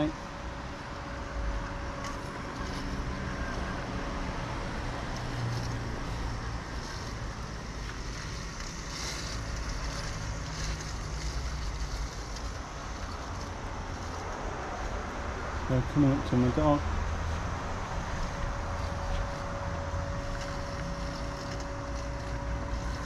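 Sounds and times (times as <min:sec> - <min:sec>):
robotic lawn mower motor hum: 0:00.0 - 0:15.6, 0:18.1 - 0:23.0.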